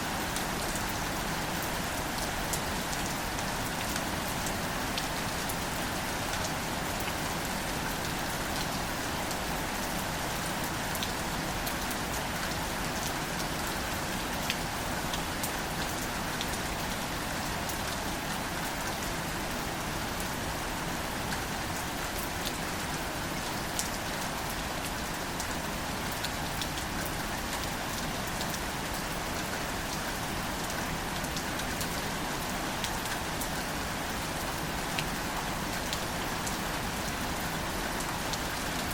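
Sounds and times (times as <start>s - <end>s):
light rain on leaves: 0.0s - 38.9s.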